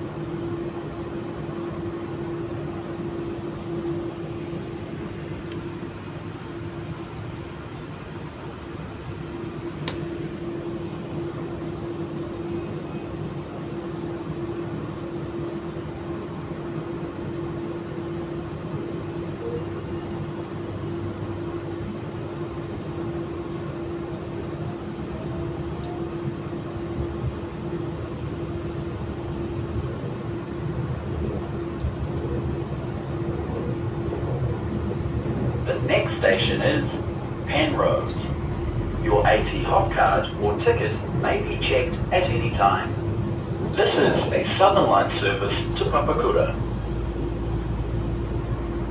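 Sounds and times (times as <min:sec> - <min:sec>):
train carriage running hum: 0:00.0 - 0:48.9.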